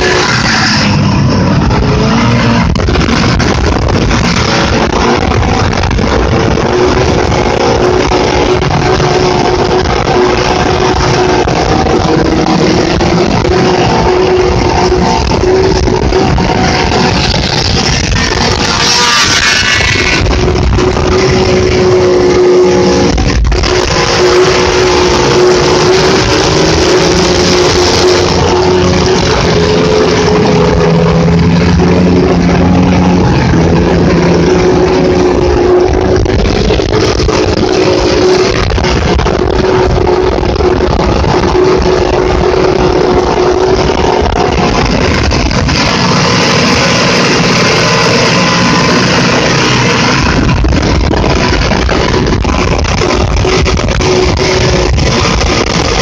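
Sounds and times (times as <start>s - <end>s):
loud rock music with guitar: 0.0s - 56.0s
snowmobile engine drone: 0.0s - 56.0s
wind rumble on microphone: 0.0s - 56.0s.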